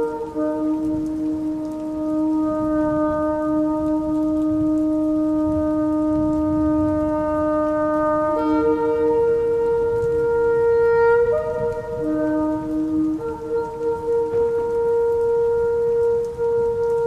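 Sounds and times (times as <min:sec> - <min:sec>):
shofar blast: 0:00.0 - 0:17.0.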